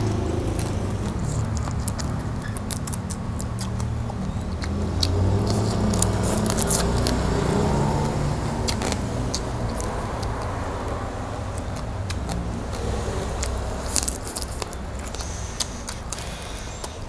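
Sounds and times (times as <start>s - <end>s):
prawn shells crackling when bitten: 0.1s - 17.0s.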